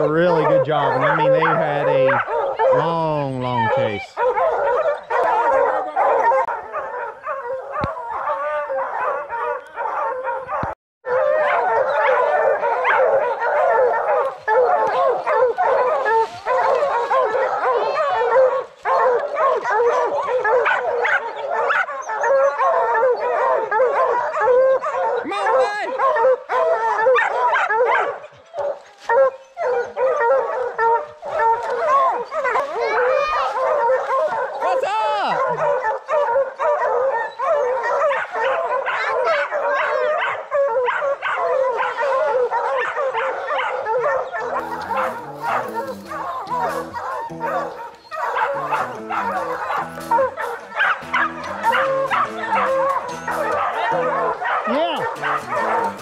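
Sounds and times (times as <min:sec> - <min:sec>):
hounds baying and barking: 0:00.0 - 0:56.0.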